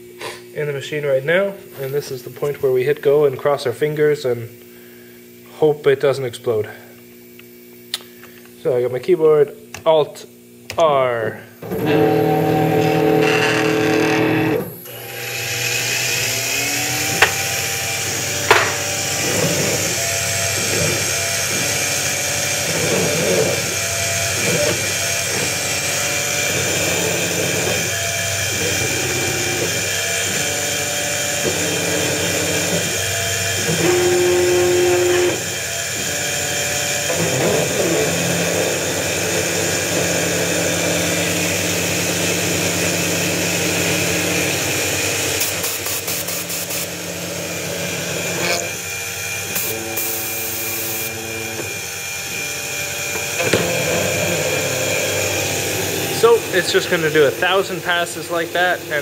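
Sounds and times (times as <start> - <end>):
milling machine cutting steel: 11.6 - 59.0.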